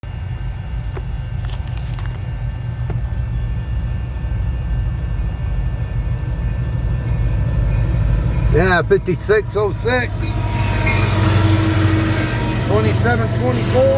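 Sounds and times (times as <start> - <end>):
diesel locomotives rumbling: 0.0 - 13.9.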